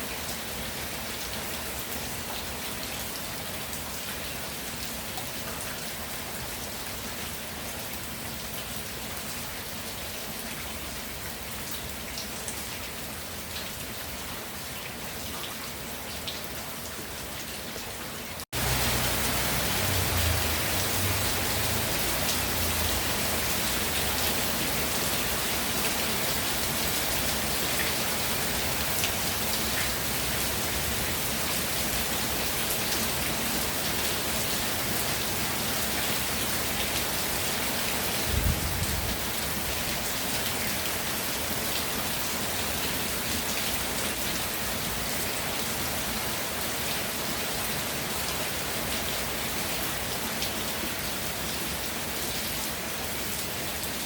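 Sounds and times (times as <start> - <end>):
heavy rain on the ground: 0.0 - 54.0.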